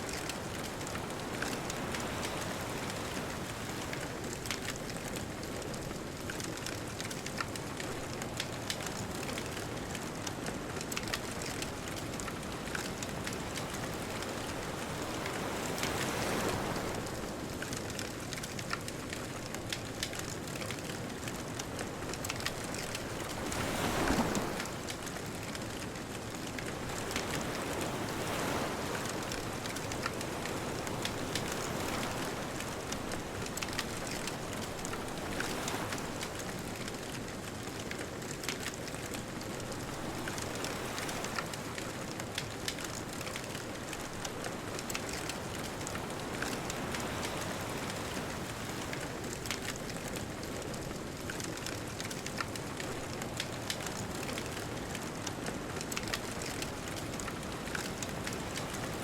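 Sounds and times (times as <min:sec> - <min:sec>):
ocean waves washing ashore: 0:00.0 - 0:59.0
bonfire crackling: 0:00.1 - 0:59.0.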